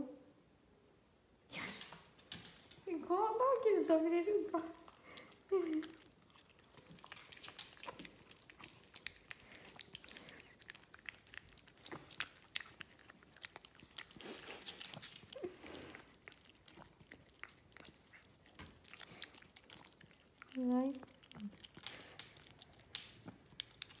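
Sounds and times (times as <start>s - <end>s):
dog chewing with mouth clicks: 1.6s - 24.0s.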